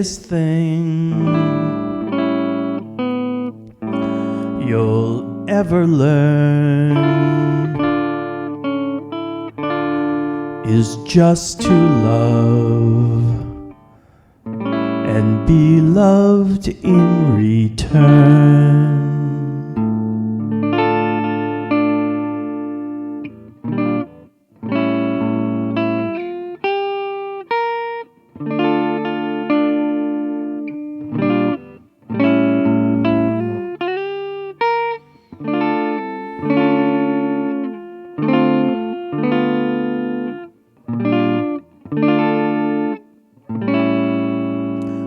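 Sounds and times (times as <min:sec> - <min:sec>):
guitar playing sustained chords: 0:00.0 - 0:45.0.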